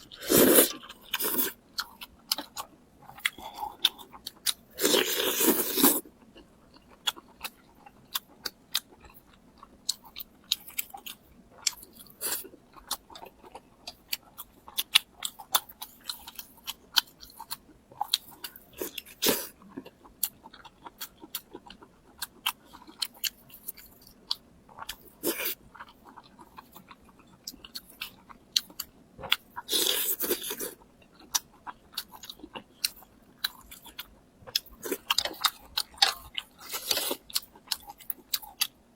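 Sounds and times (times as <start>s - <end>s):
person chewing crunchy food: 0.0s - 38.8s.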